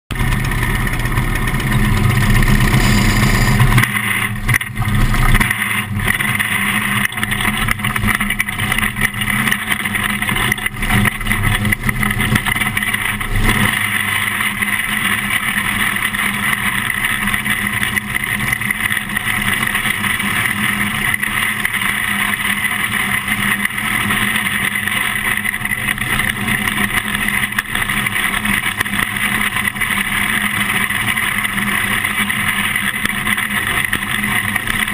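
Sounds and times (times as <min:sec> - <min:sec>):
race car engine running hard: 0:00.1 - 0:34.9.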